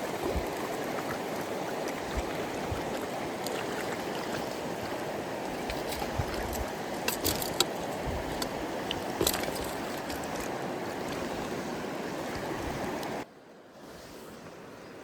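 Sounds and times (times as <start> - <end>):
mountain stream running: 0.0 - 13.3.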